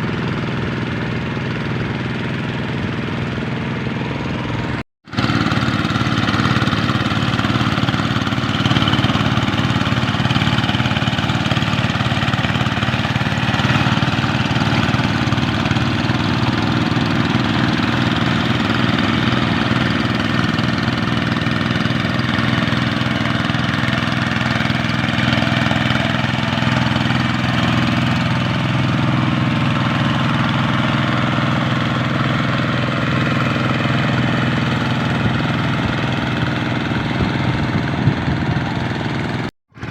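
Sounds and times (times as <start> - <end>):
single-cylinder diesel engine running: 0.0 - 39.9.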